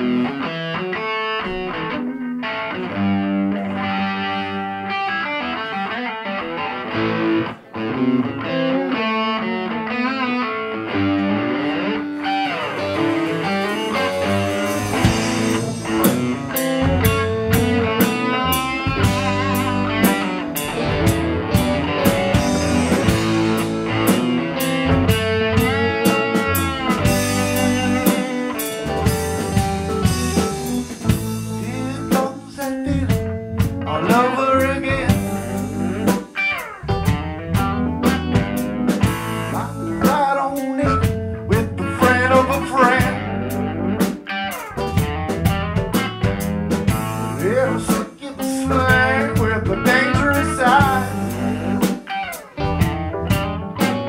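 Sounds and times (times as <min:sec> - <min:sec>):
electric guitar: 0:00.0 - 0:54.0
rock band playing live: 0:00.0 - 0:54.0.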